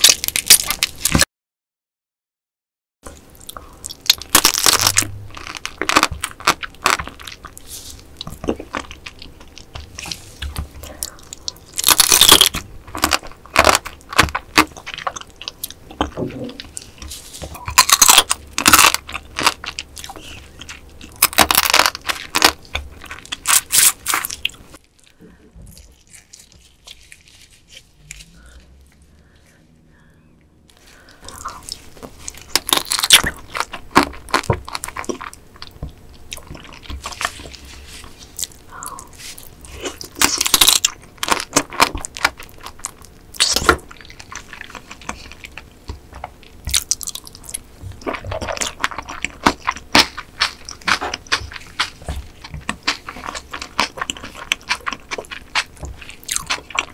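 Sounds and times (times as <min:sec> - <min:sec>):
crunching crab shell: 0:00.0 - 0:01.2, 0:03.4 - 0:25.2, 0:30.8 - 0:56.9
wet chewing: 0:03.1 - 0:29.4, 0:30.7 - 0:56.9.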